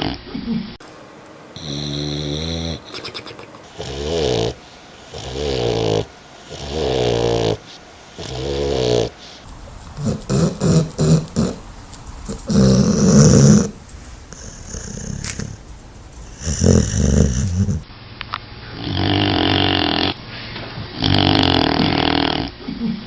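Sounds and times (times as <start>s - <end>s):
dog snoring: 1.6s - 15.6s, 16.2s - 17.9s, 18.7s - 20.2s, 20.8s - 22.5s.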